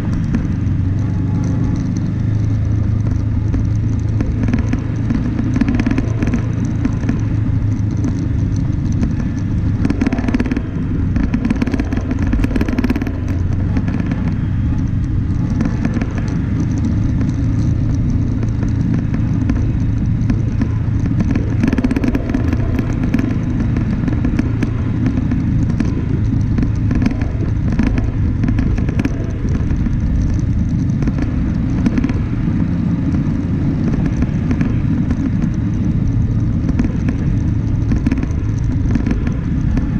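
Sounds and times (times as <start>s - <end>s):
low engine drone: 0.0s - 39.9s
wheels rumbling over gravel: 0.0s - 39.9s.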